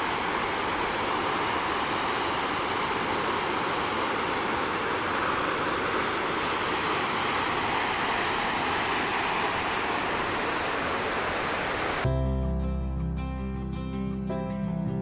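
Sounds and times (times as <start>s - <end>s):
white water rushing: 0.0s - 12.1s.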